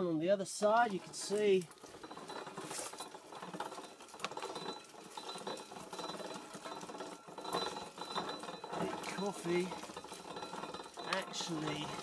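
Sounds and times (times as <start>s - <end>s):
pulping machine rattling: 0.8s - 12.0s.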